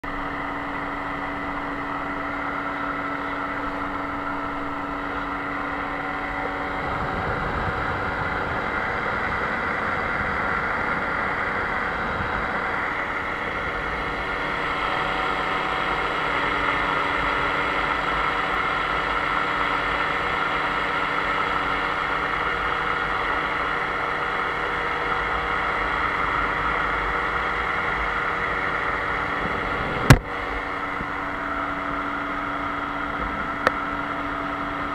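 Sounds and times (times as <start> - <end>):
paramotor engine and propeller: 0.0 - 34.9
wind noise on microphone: 3.2 - 34.9.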